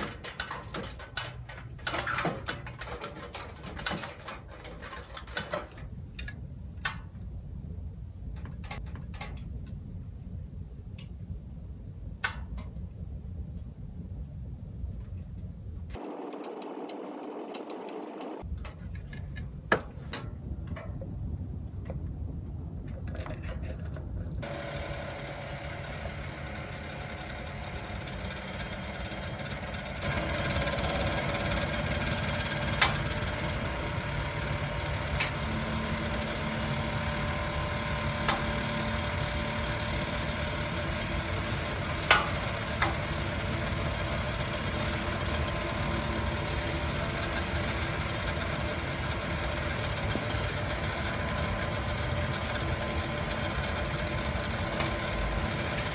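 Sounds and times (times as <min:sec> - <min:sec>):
wood fire rumbling in a stove: 0:00.0 - 0:17.3, 0:18.4 - 0:55.9.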